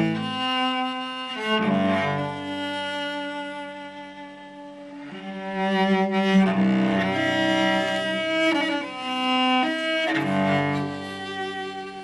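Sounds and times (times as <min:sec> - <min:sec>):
cello playing slow melody: 0:00.0 - 0:12.0.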